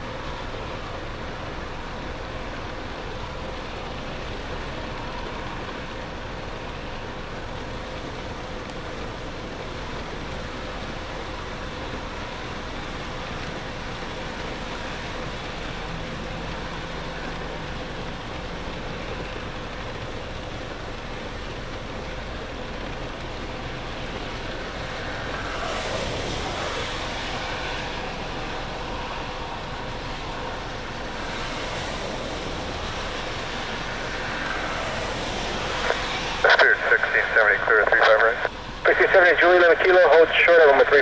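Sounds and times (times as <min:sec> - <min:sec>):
faint steady whine: 0:00.0 - 0:41.0
jet engines roaring: 0:00.0 - 0:41.0.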